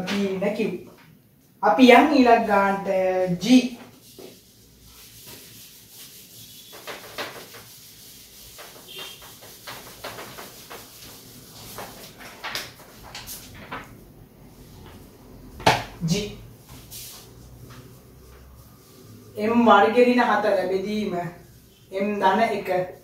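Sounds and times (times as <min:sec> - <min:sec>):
eraser wiping whiteboard: 0:02.8 - 0:23.0.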